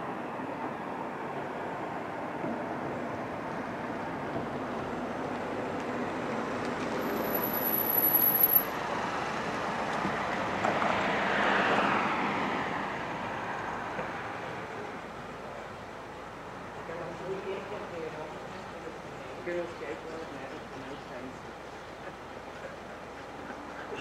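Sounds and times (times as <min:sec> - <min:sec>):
distant engines rumbling: 0:00.0 - 0:24.0.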